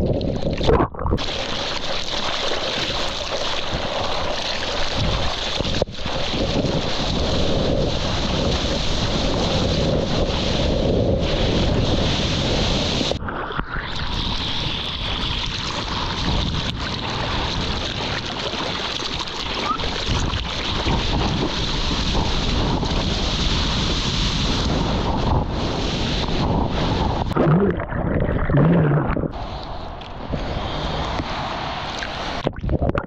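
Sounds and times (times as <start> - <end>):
water splashing and rushing: 0.0 - 33.0
wind buffeting microphone: 4.8 - 18.6, 19.6 - 33.0.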